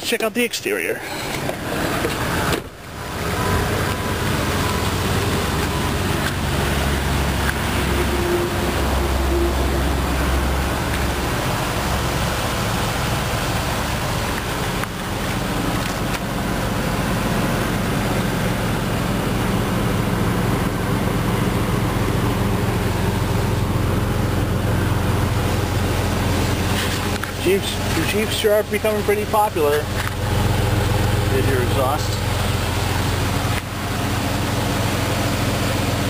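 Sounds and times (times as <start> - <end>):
car exhaust idling: 0.0 - 36.0.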